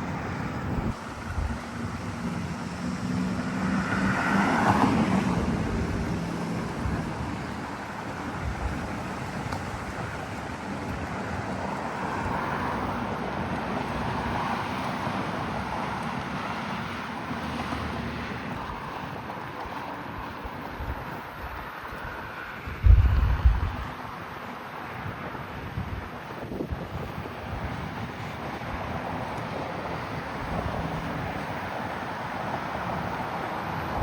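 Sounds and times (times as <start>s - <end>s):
road noise: 0.0s - 34.0s
wind rushing over microphone: 0.0s - 34.0s.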